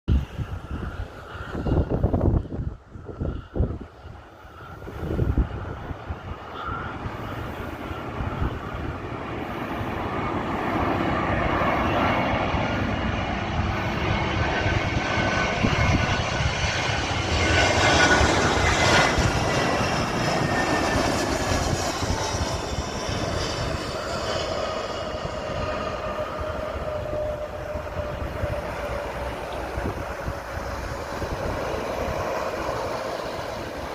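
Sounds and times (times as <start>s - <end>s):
jet airliner engines passing: 0.1s - 33.9s
wind buffeting microphone: 0.1s - 33.9s.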